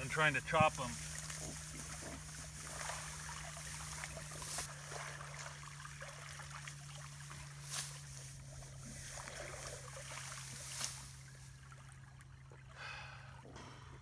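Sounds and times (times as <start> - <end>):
plants pulled from water: 0.0 - 11.9
water trickling and splashing: 0.0 - 13.6
low steady hum: 0.0 - 14.0.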